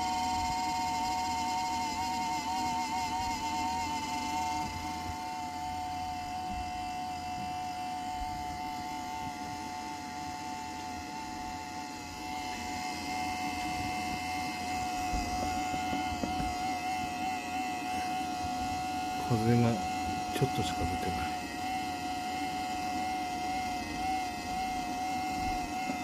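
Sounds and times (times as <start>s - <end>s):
power adapter high whine: 0.0s - 26.0s.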